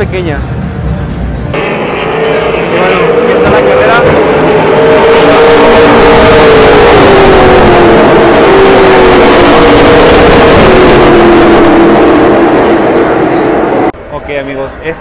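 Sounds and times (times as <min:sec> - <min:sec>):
race cars racing past: 0:01.6 - 0:14.0.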